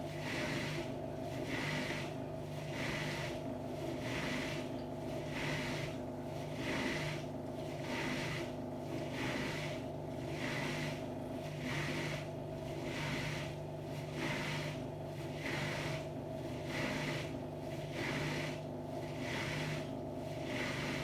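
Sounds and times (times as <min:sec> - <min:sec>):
steady machine hum: 0:00.0 - 0:21.0
washing machine drum swishing: 0:00.0 - 0:21.0.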